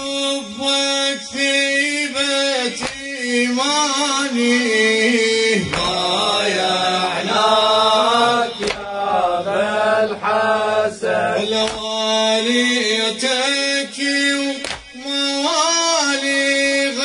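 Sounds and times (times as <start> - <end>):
held vocal drone: 0.0 - 17.0
men chanting: 0.0 - 17.0.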